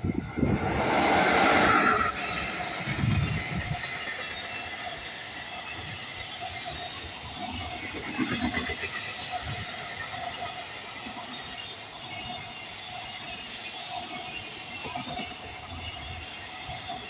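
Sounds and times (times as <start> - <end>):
train wheels rumbling on rails: 0.0 - 17.0
wheel squeal: 0.0 - 17.0.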